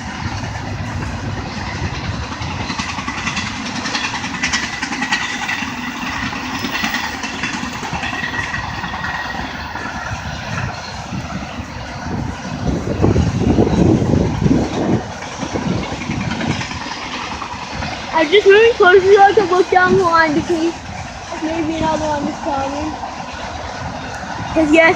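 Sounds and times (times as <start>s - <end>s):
freight train rolling past: 0.0s - 24.9s
wheels clicking over rail joints: 0.0s - 24.9s
high wheel squeal: 1.3s - 24.9s.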